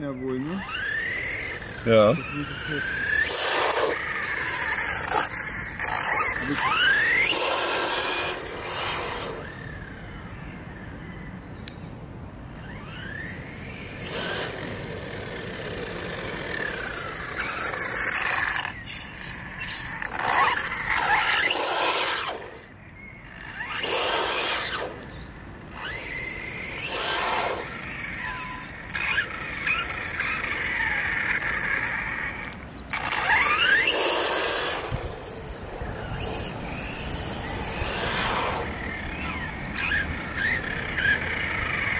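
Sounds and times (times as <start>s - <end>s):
rc car motors whining: 0.0s - 11.5s, 12.4s - 41.9s.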